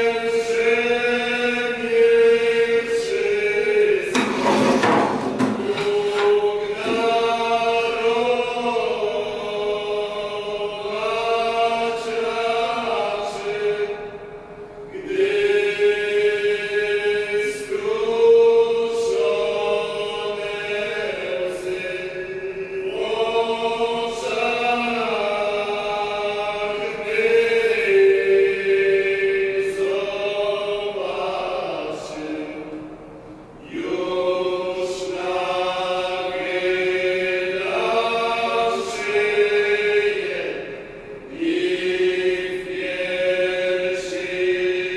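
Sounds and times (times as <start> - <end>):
slow chant-like singing: 0.0 - 44.9
steady drone: 0.0 - 44.9.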